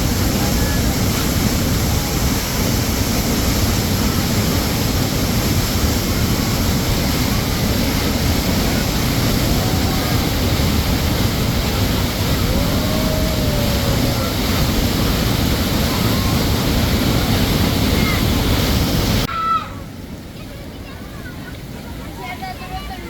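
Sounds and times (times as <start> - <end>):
spring water rushing: 0.0 - 23.0.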